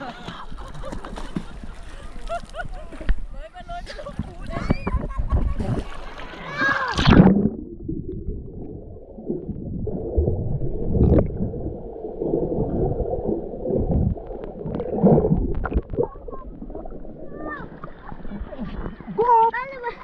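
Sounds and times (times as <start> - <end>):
underwater gurgling and sloshing: 4.0 - 20.0.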